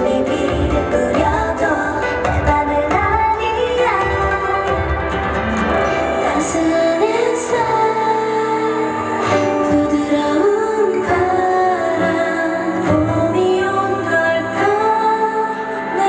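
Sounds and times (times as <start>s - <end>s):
women singing: 0.0s - 5.2s, 5.9s - 16.0s
pop song over sound system: 0.0s - 16.0s.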